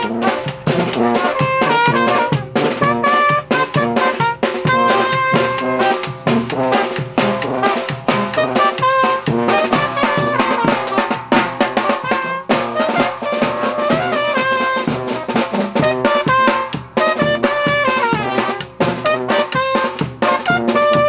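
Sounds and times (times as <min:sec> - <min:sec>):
bass drum: 0:00.0 - 0:21.0
snare drum: 0:00.0 - 0:21.0
trumpet melody: 0:00.0 - 0:21.0.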